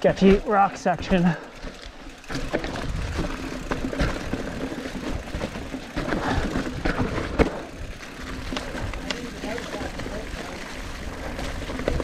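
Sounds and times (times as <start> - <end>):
bike rattling clicks and knocks: 0.0 - 12.0
bike tyres rumbling on rocks: 0.0 - 12.0.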